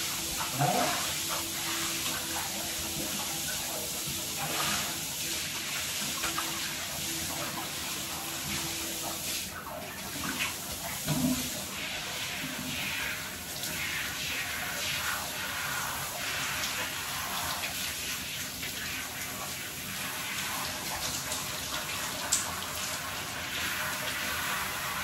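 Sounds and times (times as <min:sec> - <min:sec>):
shower water spraying into bathtub: 0:00.0 - 0:25.0.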